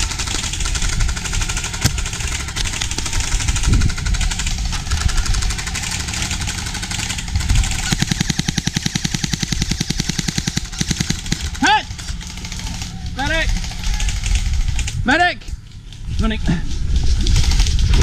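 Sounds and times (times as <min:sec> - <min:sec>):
airsoft guns firing full auto: 0:00.0 - 0:15.2.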